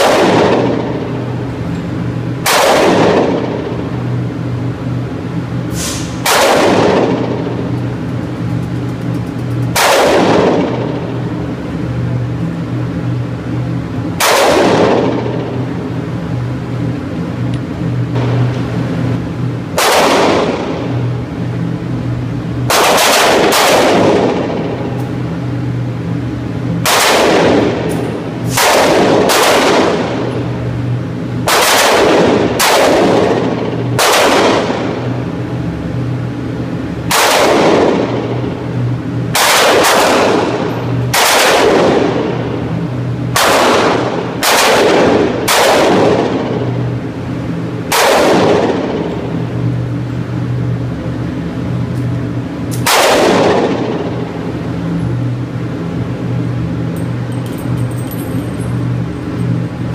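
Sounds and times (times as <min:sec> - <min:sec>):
pistol shots reverberating indoors: 0:00.0 - 0:17.5, 0:18.1 - 0:59.6
steady low hum: 0:00.0 - 0:59.9.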